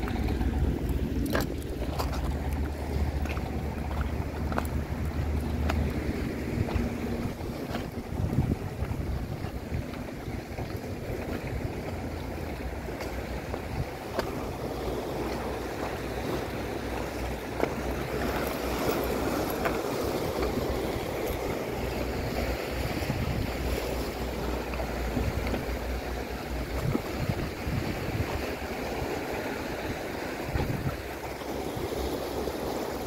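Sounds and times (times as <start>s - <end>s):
sea waves washing against rocks: 0.0s - 33.0s
wind buffeting microphone: 0.0s - 33.0s.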